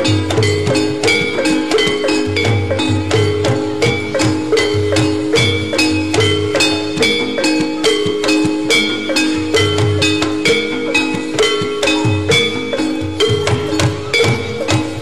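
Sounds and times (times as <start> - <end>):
gamelan music: 0.0 - 15.0.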